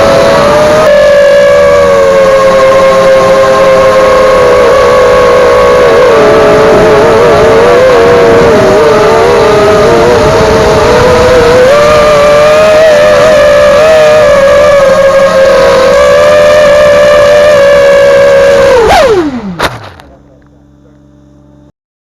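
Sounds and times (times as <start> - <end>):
quadcopter motors whining: 0.0 - 21.2.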